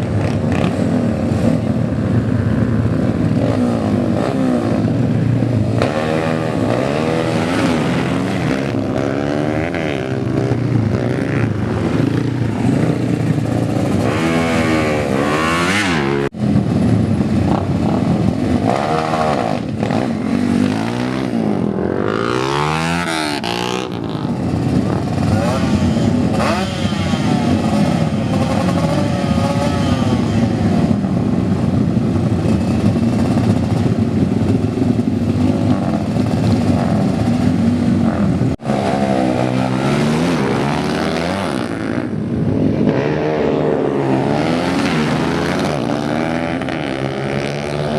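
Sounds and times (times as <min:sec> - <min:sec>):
motorcycle engines revving: 0:00.0 - 0:47.9.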